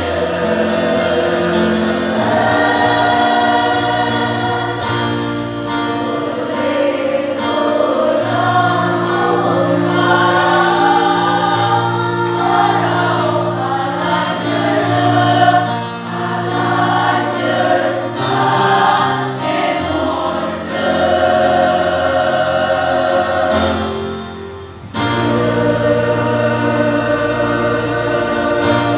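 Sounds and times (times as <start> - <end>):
choir singing in parts: 0.0 - 28.9.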